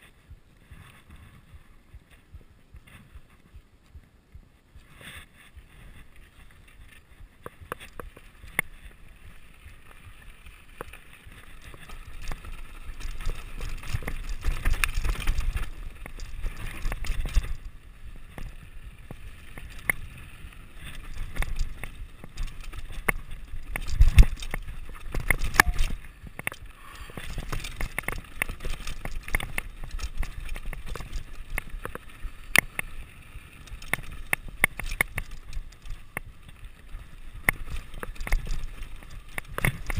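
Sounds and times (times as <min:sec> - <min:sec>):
tyres crunching over stones: 0:05.6 - 0:39.9
bike rattling clicks and knocks: 0:06.9 - 0:39.9.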